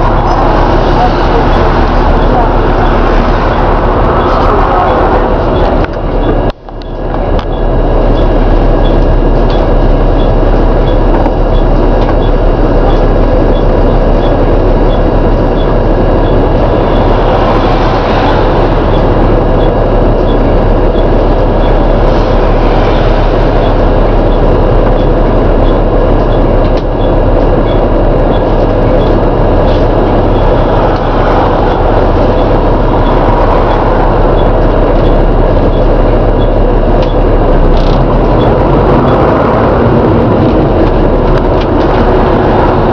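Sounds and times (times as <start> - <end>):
bus engine groaning: 0.0 - 42.9.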